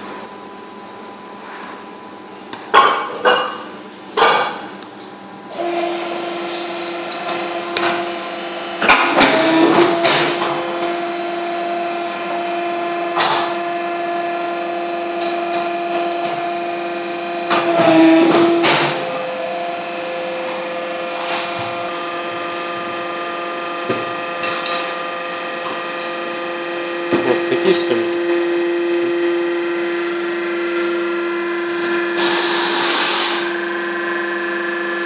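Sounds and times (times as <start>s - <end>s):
machine humming: 4.2s - 35.0s.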